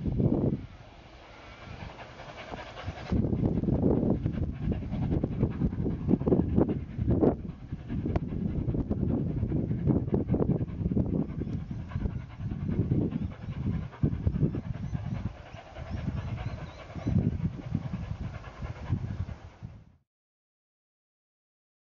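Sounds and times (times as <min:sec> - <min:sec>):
distant steam locomotive chuffing: 0:00.0 - 0:19.6.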